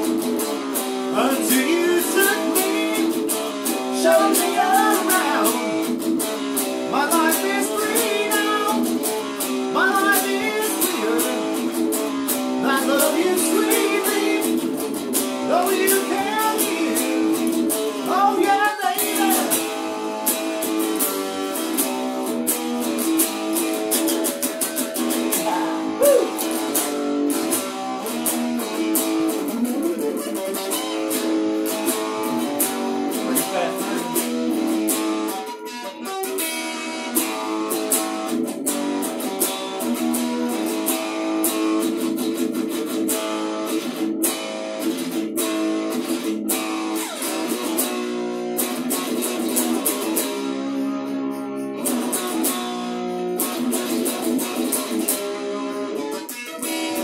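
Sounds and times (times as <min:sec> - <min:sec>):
electric guitar lead lines: 0:00.0 - 0:57.0.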